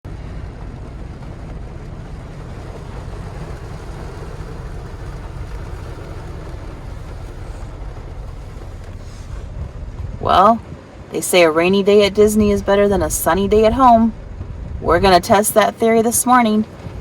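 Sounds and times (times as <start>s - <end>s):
constant low rumble: 0.0s - 17.0s
heavy rain on car: 0.1s - 17.0s.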